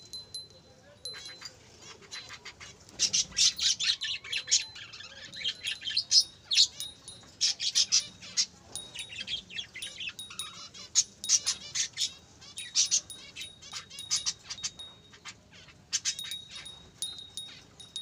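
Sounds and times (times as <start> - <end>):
budgerigars chirping: 2.0 - 16.8.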